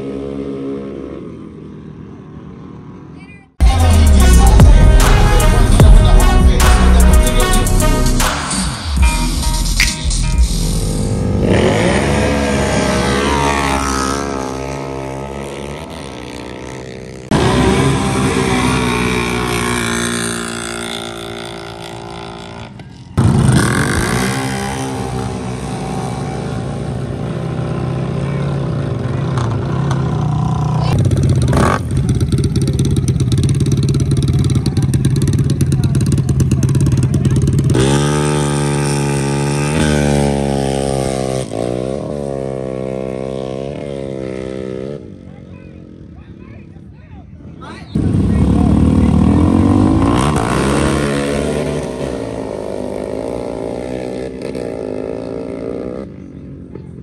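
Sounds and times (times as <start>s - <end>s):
loud atv engine: 0.0s - 46.8s, 47.5s - 57.0s
atv engine at full throttle: 0.0s - 57.0s.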